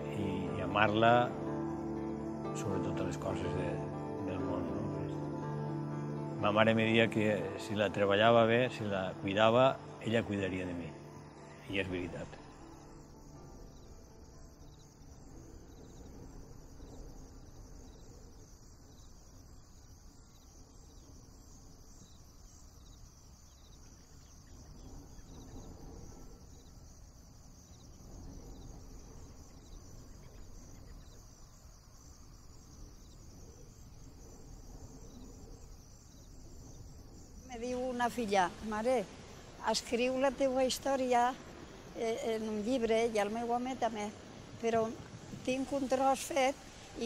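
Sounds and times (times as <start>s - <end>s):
insects chirping: 0.0s - 47.0s.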